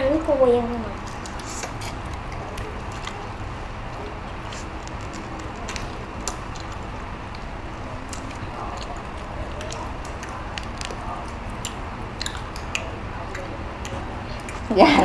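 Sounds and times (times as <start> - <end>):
steady rumbling: 0.0 - 15.0.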